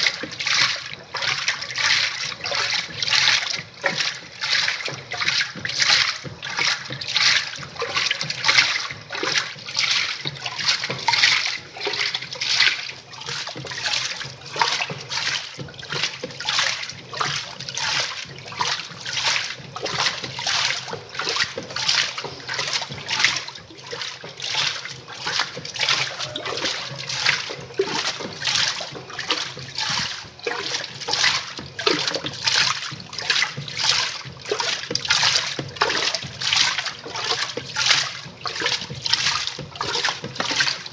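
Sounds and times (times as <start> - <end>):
washing machine water sloshing: 0.0 - 40.9.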